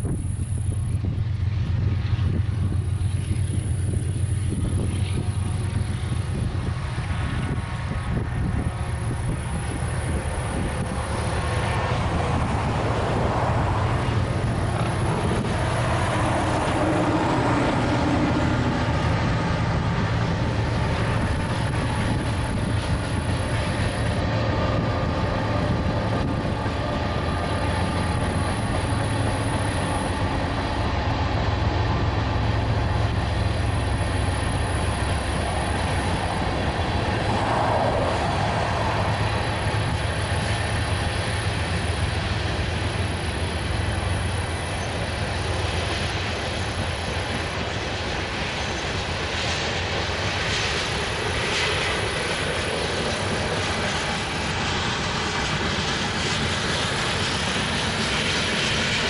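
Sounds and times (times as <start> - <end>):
diesel locomotives passing: 0.0 - 59.0
train wheels rumbling on rail: 0.0 - 59.0.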